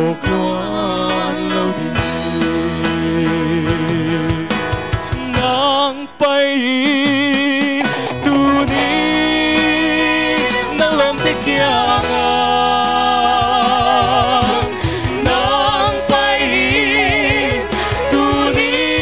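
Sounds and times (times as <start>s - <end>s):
live band playing: 0.0s - 5.8s, 6.8s - 19.0s
man and woman singing gospel: 0.0s - 19.0s.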